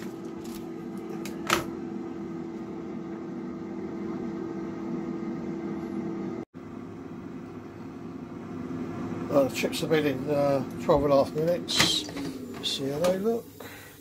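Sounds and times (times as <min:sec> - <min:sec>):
air fryer fan humming: 0:00.0 - 0:14.0.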